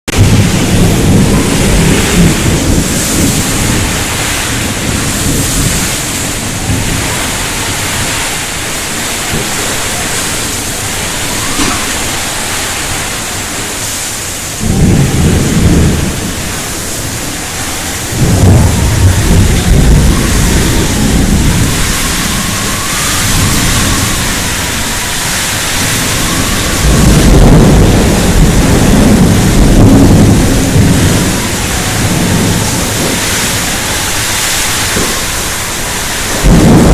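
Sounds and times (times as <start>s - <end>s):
rain falling: 0.1s - 36.9s
thunder rolling: 0.1s - 36.9s.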